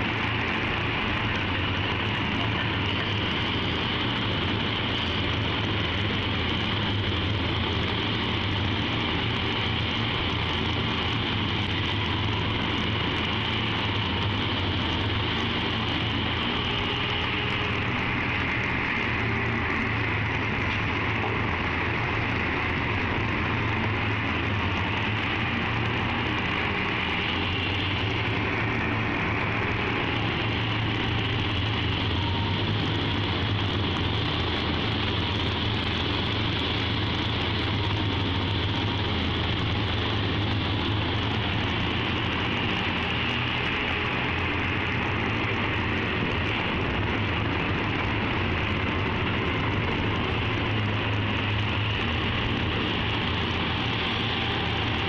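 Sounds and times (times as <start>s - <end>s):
heavy machine drone: 0.0s - 55.0s.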